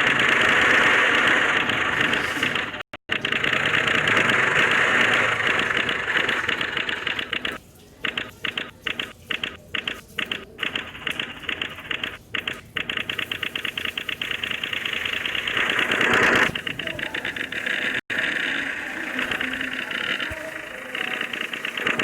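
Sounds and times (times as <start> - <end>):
diesel tractor engine clattering: 0.0 - 22.0.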